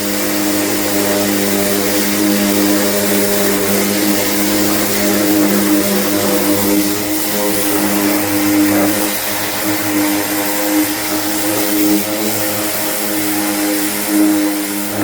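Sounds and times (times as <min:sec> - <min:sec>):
power sander droning: 0:00.0 - 0:15.0.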